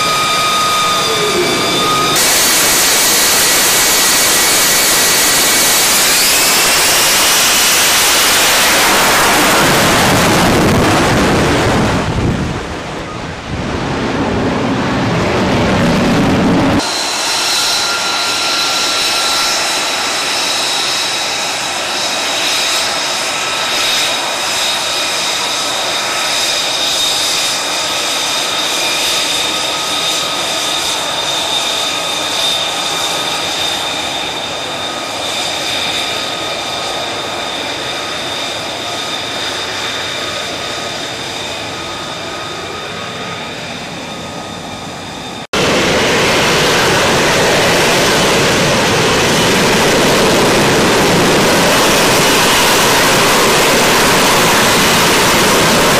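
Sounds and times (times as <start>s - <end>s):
jet engine whining: 0.0s - 55.9s
rough jet roar: 0.0s - 55.9s.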